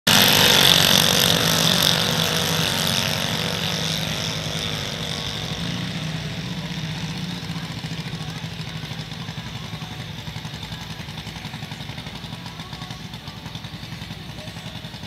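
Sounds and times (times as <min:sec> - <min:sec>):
dragster engine running: 0:00.0 - 0:15.0.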